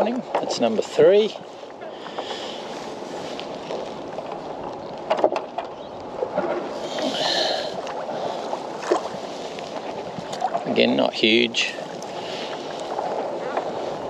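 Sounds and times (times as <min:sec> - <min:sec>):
waves lapping against kayak hull: 0:00.0 - 0:14.0.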